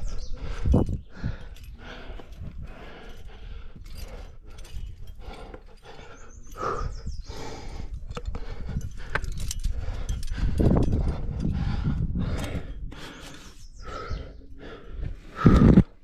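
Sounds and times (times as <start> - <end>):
hard rhythmic breathing: 0.0 - 16.0.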